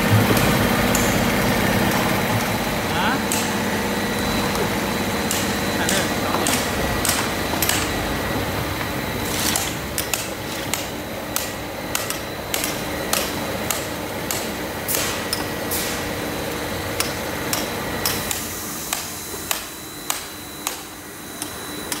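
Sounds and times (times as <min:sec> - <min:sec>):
machinery hum with high whine: 0:00.0 - 0:22.0.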